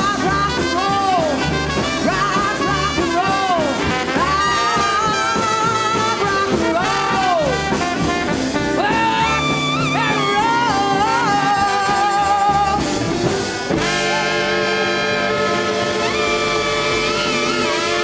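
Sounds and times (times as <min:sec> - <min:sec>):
jazz band with horns: 0:00.0 - 0:18.0.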